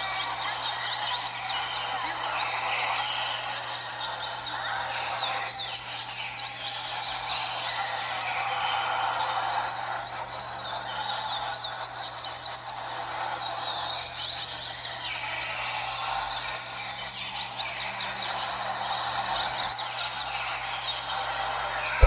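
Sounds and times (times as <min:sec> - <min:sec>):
chorus of birds singing: 0:00.0 - 0:22.0.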